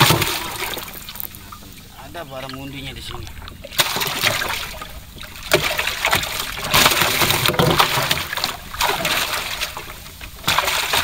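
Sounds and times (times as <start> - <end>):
paddle splashing in water: 0.0 - 11.0.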